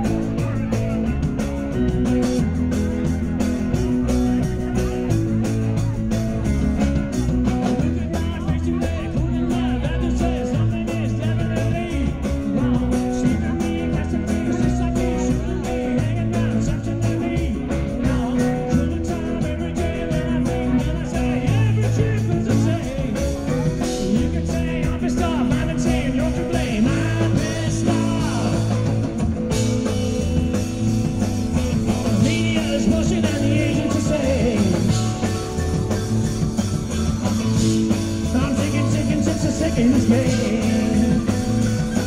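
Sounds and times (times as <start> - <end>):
bass notes: 0.0 - 42.0
drums: 0.0 - 42.0
gliding lead guitar lines: 0.0 - 42.0.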